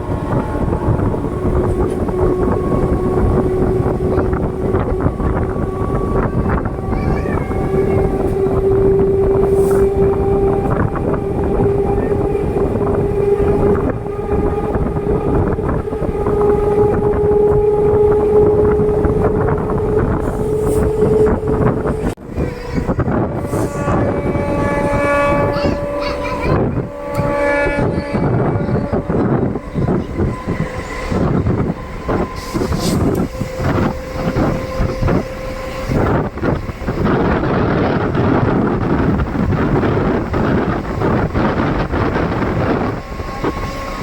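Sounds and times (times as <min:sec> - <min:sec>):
rising train whine: 0:00.0 - 0:44.0
train rumble and wind rush: 0:00.0 - 0:44.0.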